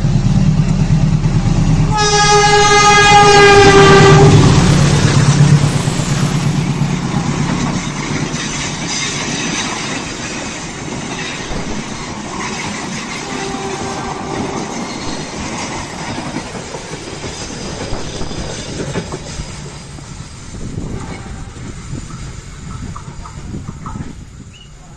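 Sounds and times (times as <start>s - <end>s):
train running on rails: 0.0s - 24.9s
wheels clattering over rail joints: 3.2s - 24.9s.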